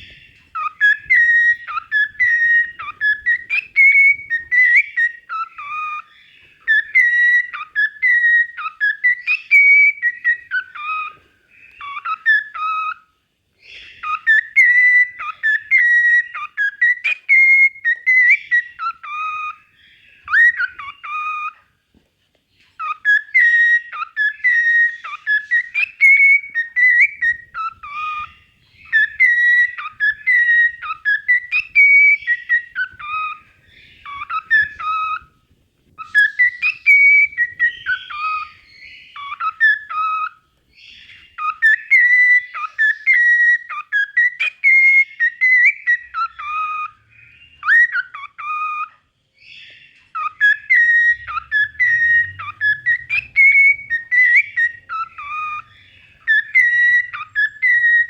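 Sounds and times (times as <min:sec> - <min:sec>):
cockatiel whistling: 0:00.0 - 0:13.0, 0:13.6 - 0:21.7, 0:22.8 - 0:35.4, 0:36.0 - 0:58.0.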